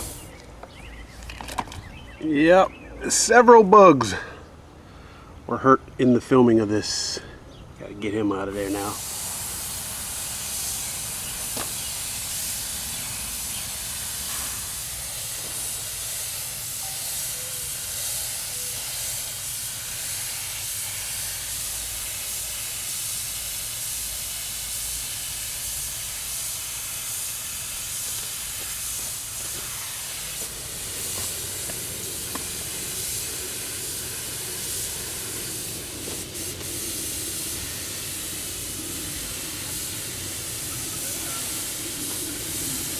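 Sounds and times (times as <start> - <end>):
paint spray gun hissing: 0.0 - 2.8, 8.4 - 42.9.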